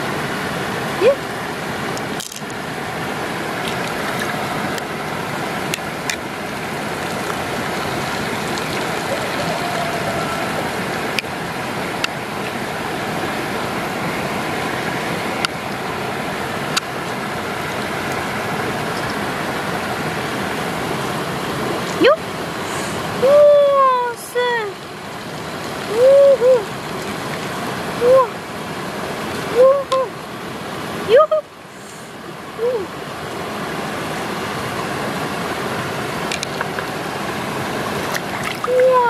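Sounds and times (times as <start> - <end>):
flowing water rushing: 0.0 - 39.0.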